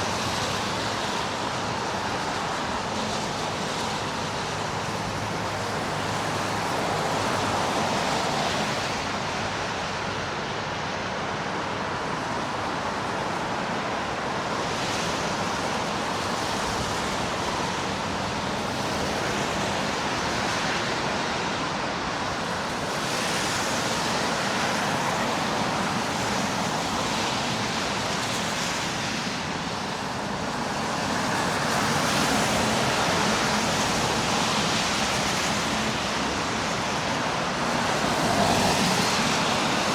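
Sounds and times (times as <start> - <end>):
city street traffic: 0.0 - 39.9.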